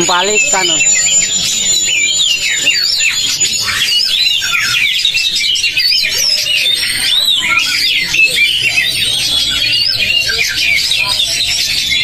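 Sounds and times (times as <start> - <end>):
chorus of songbirds singing: 0.0 - 12.0.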